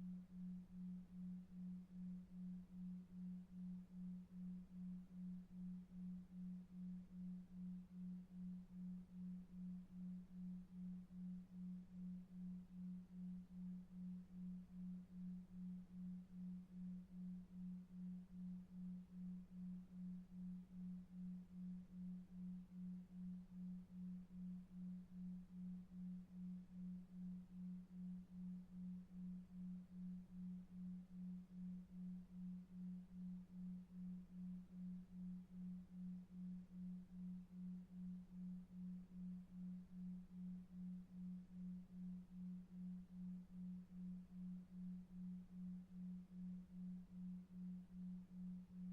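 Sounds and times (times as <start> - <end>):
low pulsing pure tone: 0.0 - 48.9.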